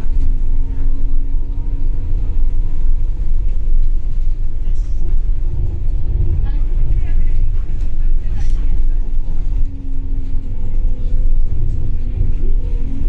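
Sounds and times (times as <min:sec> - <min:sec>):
bus engine rumbling: 0:00.0 - 0:13.0
transmission whine: 0:00.0 - 0:13.0.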